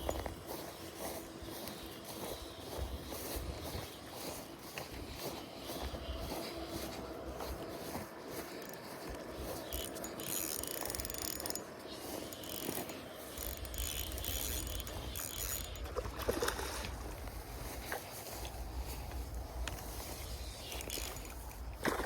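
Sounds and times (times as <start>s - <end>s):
fishing reel whirring: 0.0s - 4.9s, 5.6s - 22.0s.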